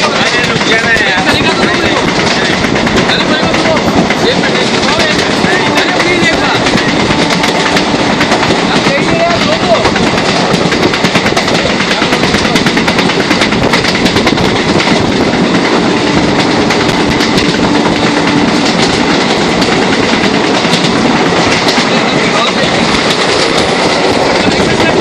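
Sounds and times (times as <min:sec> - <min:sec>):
train running noise from inside: 0:00.0 - 0:25.0
wheels clattering over rails: 0:00.0 - 0:25.0.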